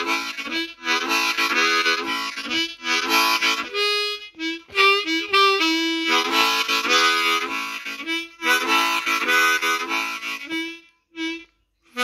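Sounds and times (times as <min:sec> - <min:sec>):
harmonica shuffle rhythm: 0:00.0 - 0:12.0.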